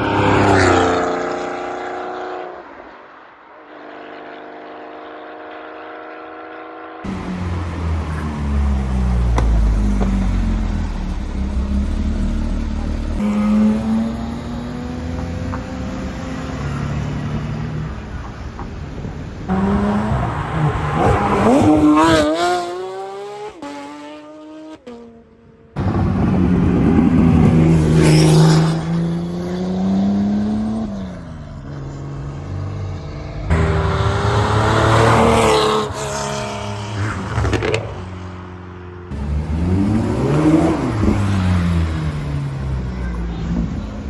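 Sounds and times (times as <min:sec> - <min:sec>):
sports car engines revving: 0:04.6 - 0:25.2, 0:25.8 - 0:44.0.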